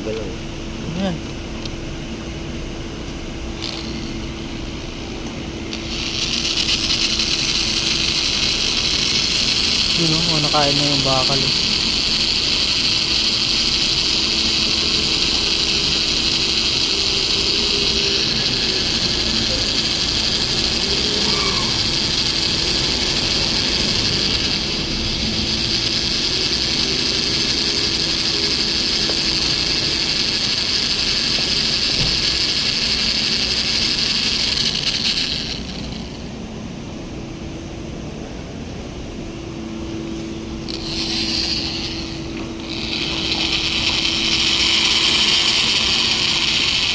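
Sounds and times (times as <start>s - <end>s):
power drill cutting metal: 3.5s - 5.0s, 5.7s - 36.3s, 40.5s - 46.9s.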